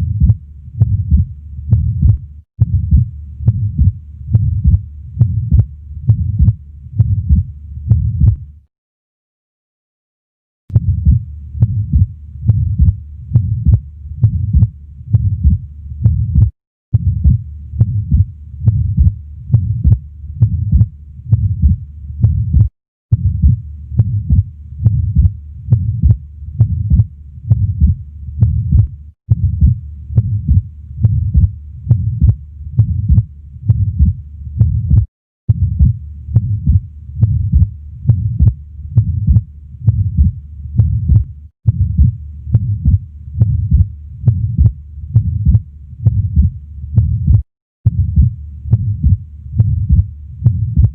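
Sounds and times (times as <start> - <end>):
heart murmur: 0.0 - 8.4, 10.7 - 50.9
heartbeat through stethoscope: 0.0 - 8.5, 10.7 - 50.9.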